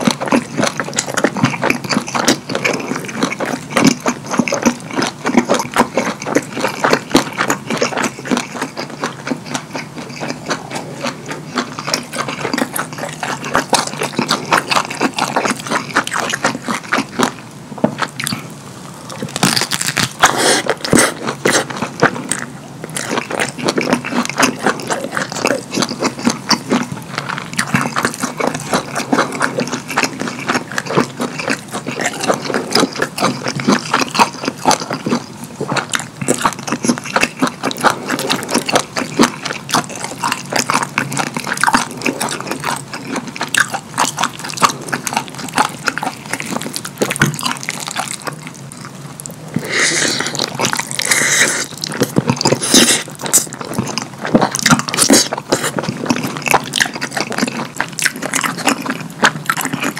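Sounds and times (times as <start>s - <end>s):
wet chewing and lip-smacking: 0.0s - 59.9s.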